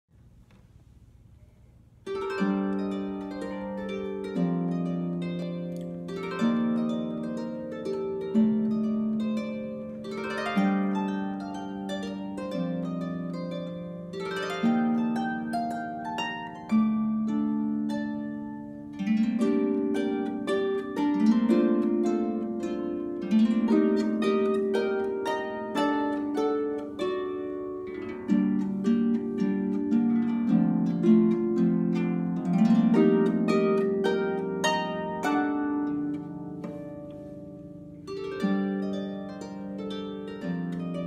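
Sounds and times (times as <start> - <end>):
harp playing chords: 1.3 - 41.0.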